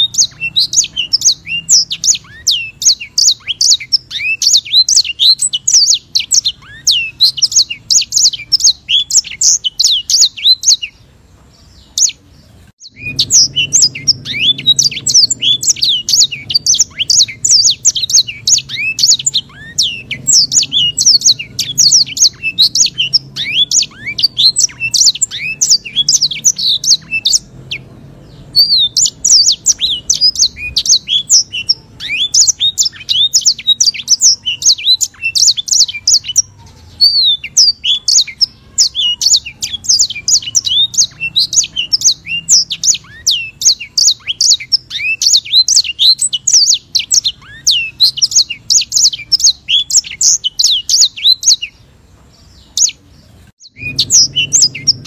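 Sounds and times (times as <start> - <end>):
songbird chirps and trills: 0.0 - 55.0.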